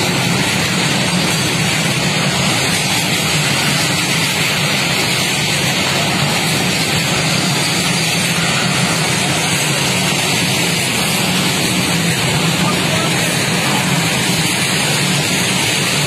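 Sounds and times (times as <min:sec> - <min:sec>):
freight wagons rumbling on rails: 0:00.0 - 0:16.0.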